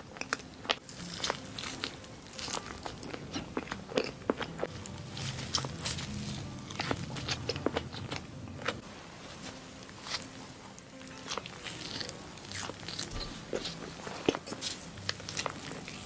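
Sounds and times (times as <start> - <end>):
person biting and chewing: 0.0 - 8.8, 9.9 - 16.0.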